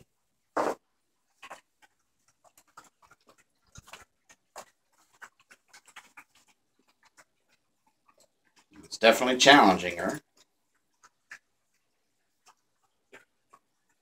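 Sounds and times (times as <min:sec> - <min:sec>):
dog crunching kibble: 0:00.6 - 0:14.0.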